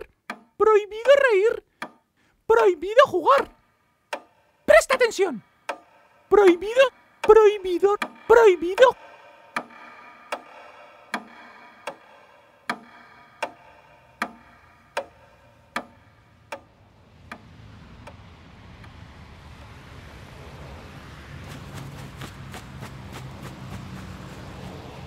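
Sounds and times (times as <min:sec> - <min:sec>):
low steady hum: 0:00.0 - 0:25.0
ticking with ringing tail: 0:00.0 - 0:25.0.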